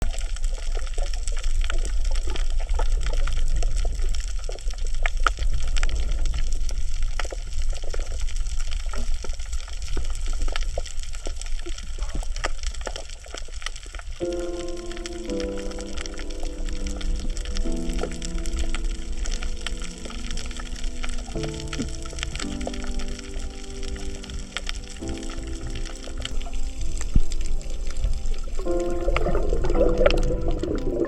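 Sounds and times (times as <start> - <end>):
crackle of reef clicks and snaps: 0.0 - 31.0
low rumble of water movement: 0.0 - 31.0.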